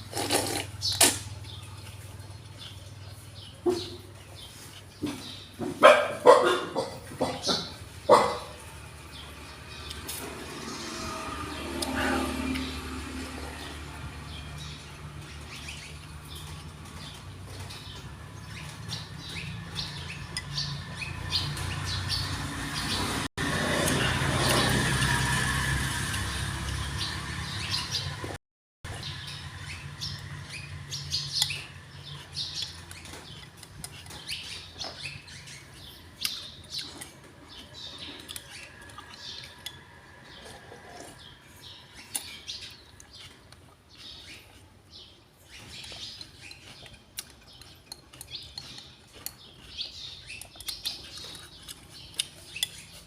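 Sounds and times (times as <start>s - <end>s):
small birds chirping: 0.0s - 23.3s, 23.9s - 53.0s.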